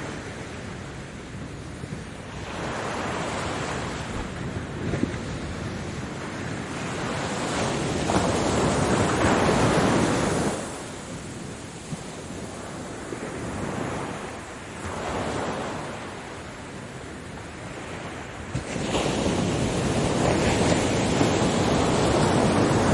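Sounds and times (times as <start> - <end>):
ocean waves washing in: 0.0 - 22.9.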